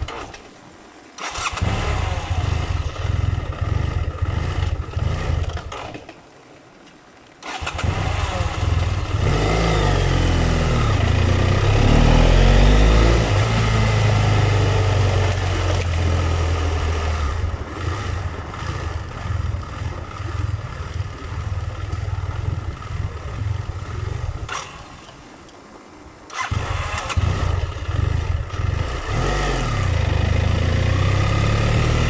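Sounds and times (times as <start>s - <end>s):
motorcycle engine idling and revving: 0.0s - 0.5s, 1.2s - 6.2s, 7.4s - 25.4s, 26.3s - 32.0s.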